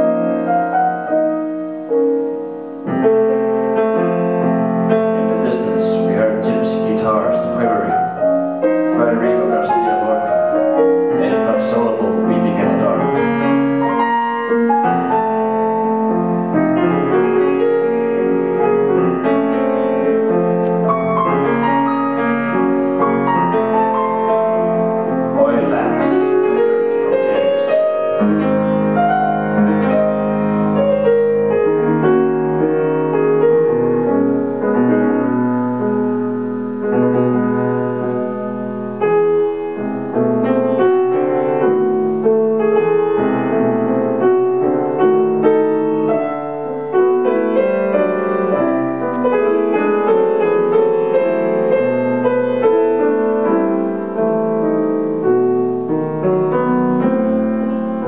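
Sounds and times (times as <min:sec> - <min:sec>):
solo piano piece: 0:00.0 - 0:58.0.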